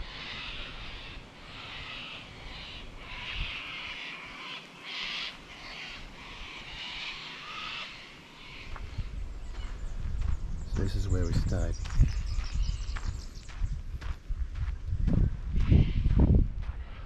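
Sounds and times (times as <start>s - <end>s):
birds calling harshly: 0.0s - 13.6s, 15.6s - 17.0s.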